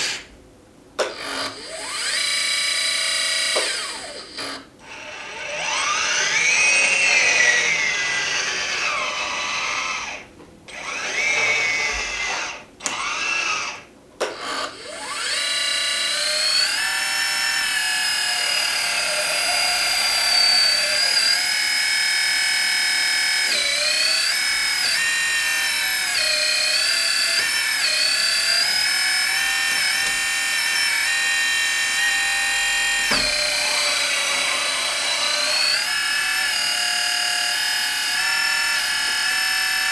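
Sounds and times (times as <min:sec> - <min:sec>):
electric hydraulic pump whining: 0:01.0 - 0:39.9.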